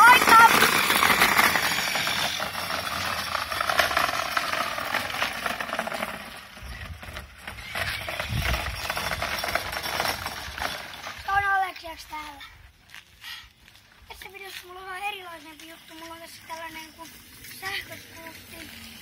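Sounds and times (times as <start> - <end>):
scooter tyres crunching on gravel: 0.0 - 19.0.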